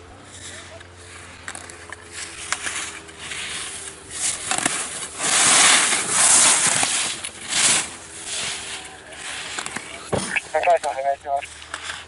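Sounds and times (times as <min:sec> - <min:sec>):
skis scraping on snow: 0:00.1 - 0:12.0.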